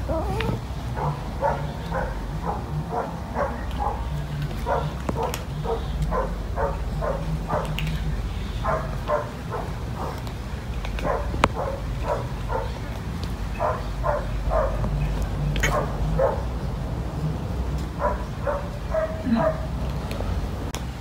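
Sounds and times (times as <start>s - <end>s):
animal calling: 0.0s - 17.0s, 17.8s - 20.0s
steady low hum: 0.0s - 21.0s.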